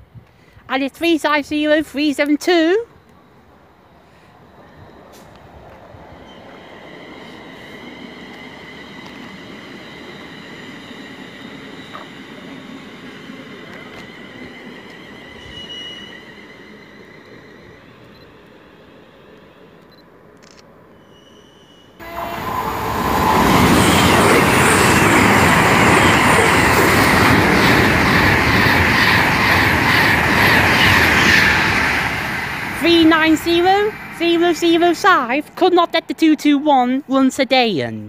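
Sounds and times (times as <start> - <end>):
train rushing past: 0.8 - 19.8, 21.0 - 37.5.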